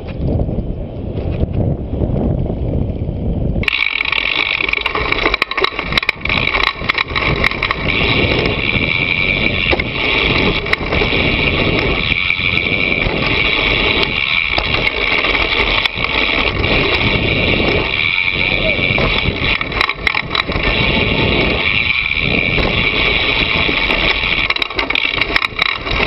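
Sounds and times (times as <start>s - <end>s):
wind: 0.0s - 26.0s
bike rattling clicks: 2.3s - 26.0s
steady high buzz: 3.6s - 26.0s
tyre rumble: 3.6s - 26.0s.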